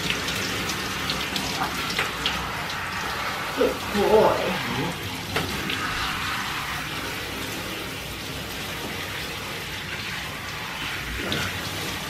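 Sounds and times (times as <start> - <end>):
shower head spraying water: 0.0 - 12.0.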